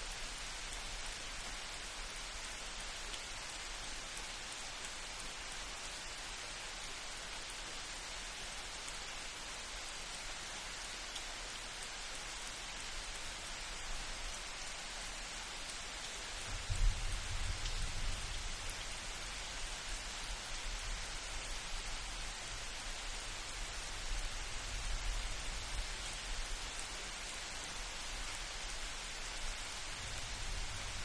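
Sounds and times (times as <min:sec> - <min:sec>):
light rain falling: 0:00.0 - 0:31.0.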